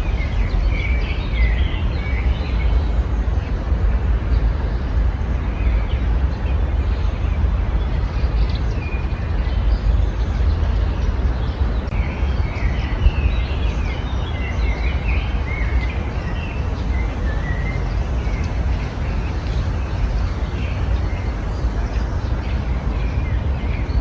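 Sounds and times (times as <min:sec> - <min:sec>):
songbirds chirping: 0:00.0 - 0:24.0
steady low rumble: 0:00.0 - 0:24.0.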